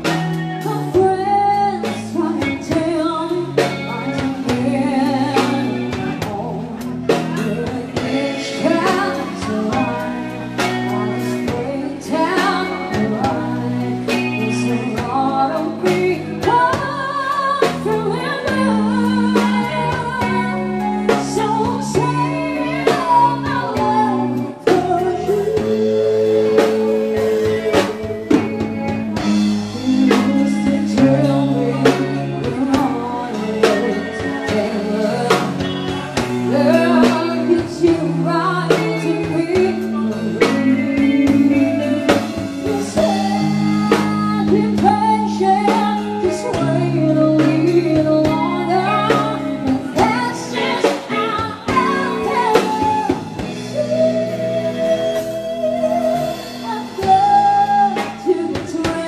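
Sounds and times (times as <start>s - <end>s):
drum kit: 0.0s - 59.0s
guitar: 0.0s - 59.0s
woman singing a ballad: 0.0s - 59.0s.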